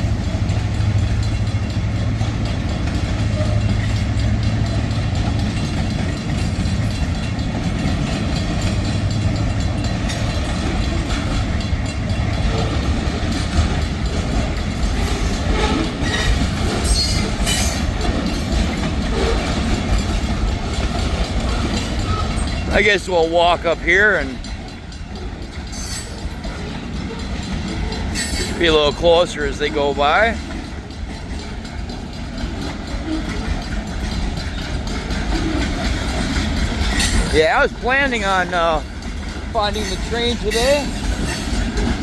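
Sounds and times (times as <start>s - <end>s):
diesel locomotive drone: 0.0s - 42.0s.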